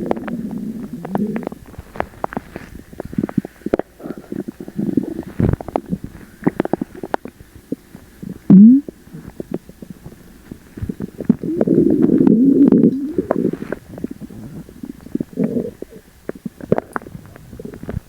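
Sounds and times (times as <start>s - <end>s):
long wavering stomach rumble: 0.0s - 18.0s
stomach gurgling: 0.0s - 18.0s.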